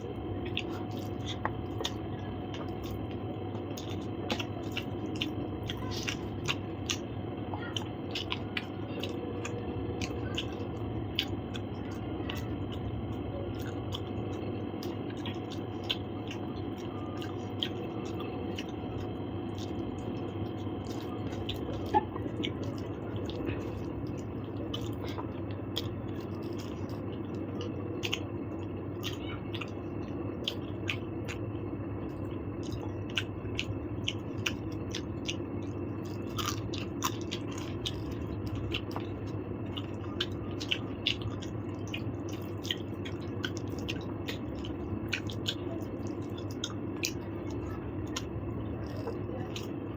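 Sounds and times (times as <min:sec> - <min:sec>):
steady low hum: 0:00.0 - 0:49.9
person chewing: 0:00.1 - 0:49.9.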